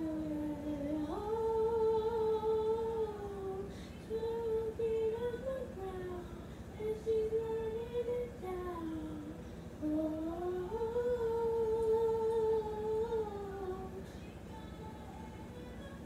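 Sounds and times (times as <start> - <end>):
girl humming a slow tune: 0.0 - 16.0.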